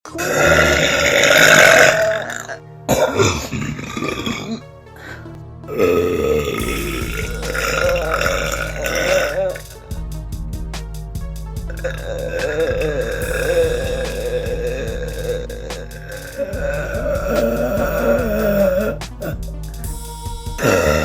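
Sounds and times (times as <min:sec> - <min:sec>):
background music: 0:00.1 - 0:21.0.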